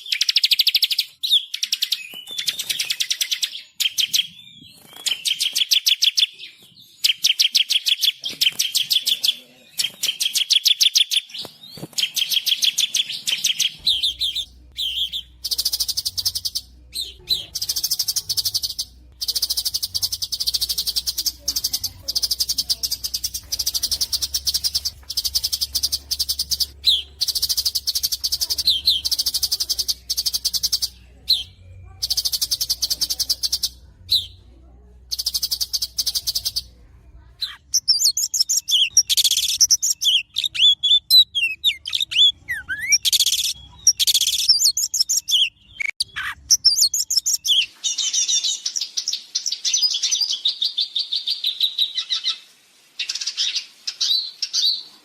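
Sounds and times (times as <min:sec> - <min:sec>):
songbirds singing trills: 0:00.0 - 0:54.9.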